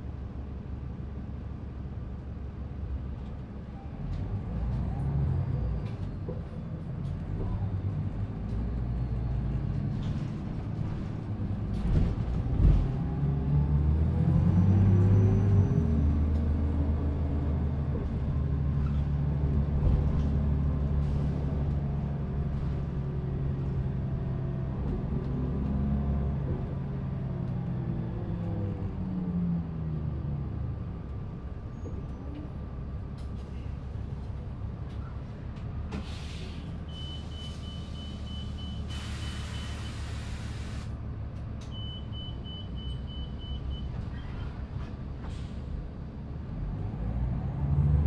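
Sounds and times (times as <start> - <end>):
bus engine running: 0.0 - 48.0.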